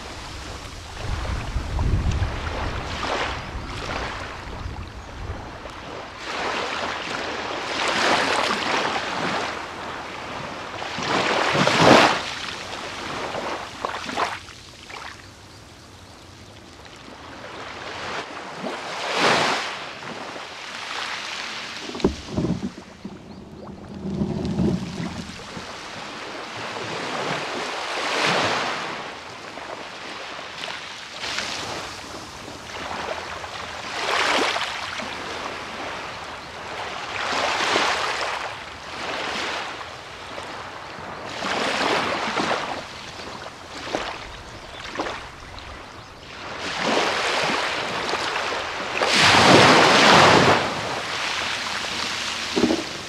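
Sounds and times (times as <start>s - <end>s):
waves breaking on a beach: 0.0s - 53.0s.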